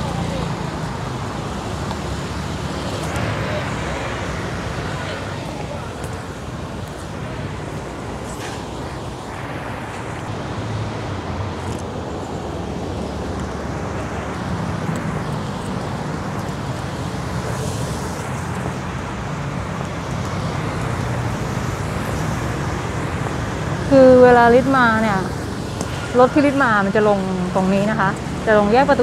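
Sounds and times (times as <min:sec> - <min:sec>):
tyre and street noise: 0:00.0 - 0:29.0
vehicles passing: 0:00.0 - 0:29.0.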